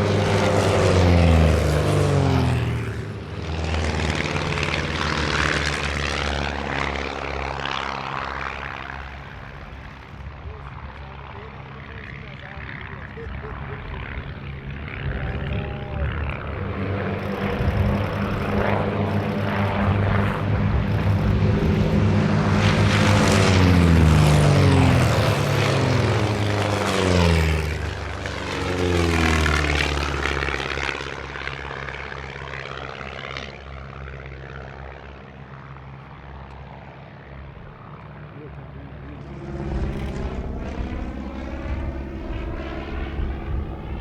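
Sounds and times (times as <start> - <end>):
propeller airplanes droning past: 0.0 - 44.0.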